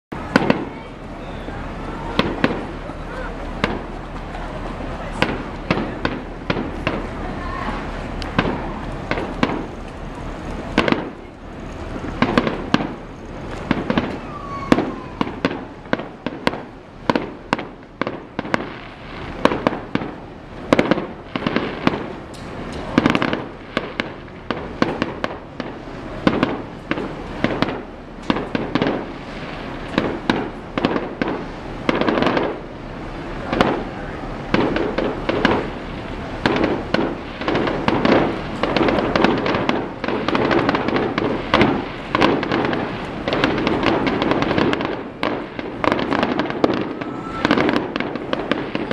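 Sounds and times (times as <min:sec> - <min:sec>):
fireworks bangs and crackles: 0:00.1 - 0:48.9.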